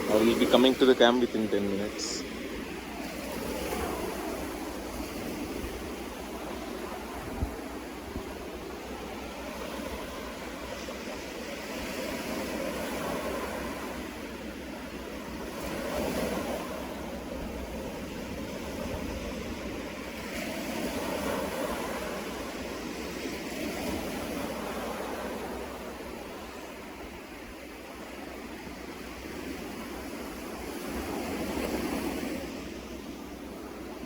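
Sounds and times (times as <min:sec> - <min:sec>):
sea waves breaking on shore: 0:00.0 - 0:34.0.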